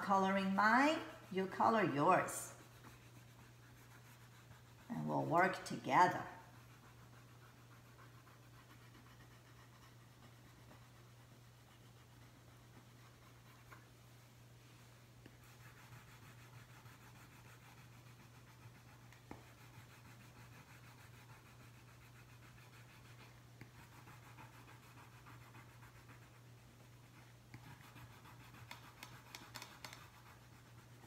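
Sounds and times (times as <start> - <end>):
wax crayon strokes on paper: 0.0 - 13.9, 14.6 - 31.0.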